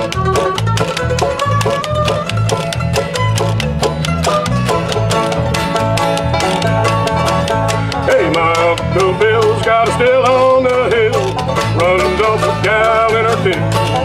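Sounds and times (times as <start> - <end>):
acoustic guitars strumming: 0.0 - 14.0
pulsing bass line: 0.0 - 14.0
sliding melody line: 0.0 - 14.0.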